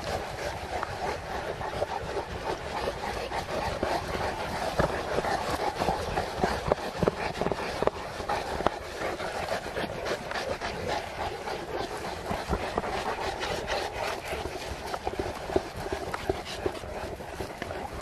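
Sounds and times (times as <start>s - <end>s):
dog claws clicking and scuffing: 0.0s - 18.0s
outdoor hubbub: 0.0s - 18.0s.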